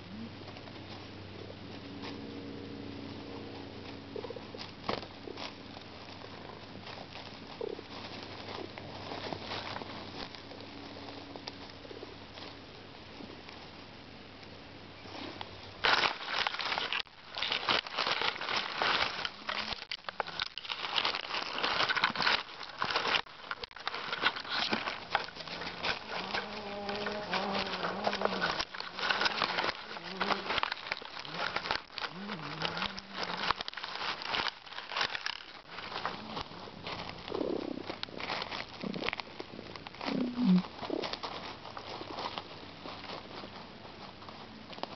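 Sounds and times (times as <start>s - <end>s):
dry leaves rustling and crackling: 0.0s - 44.9s.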